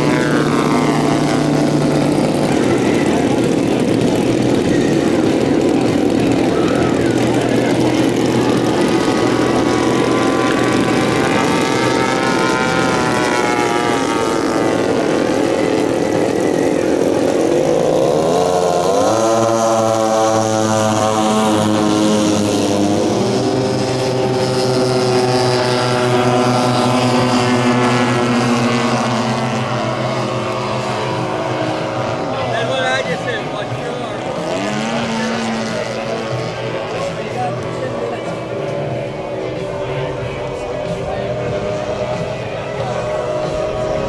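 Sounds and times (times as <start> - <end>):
model airplane propeller engine: 0.0 - 44.0.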